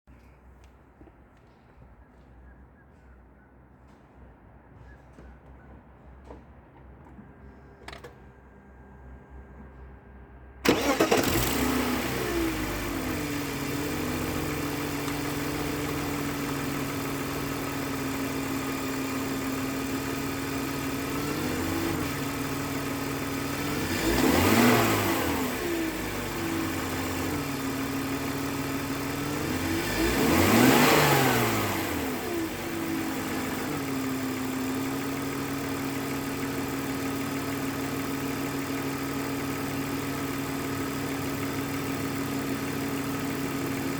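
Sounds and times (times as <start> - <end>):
car engine starting and idling: 6.2 - 43.9.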